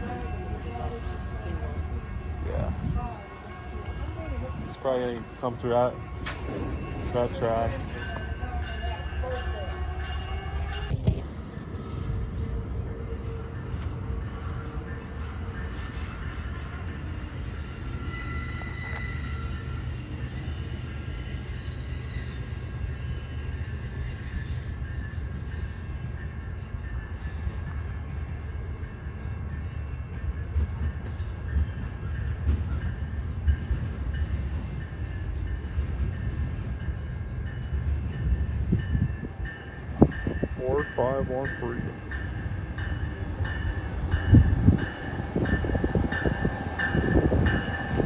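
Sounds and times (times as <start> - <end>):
train rumbling past: 0.0 - 48.0.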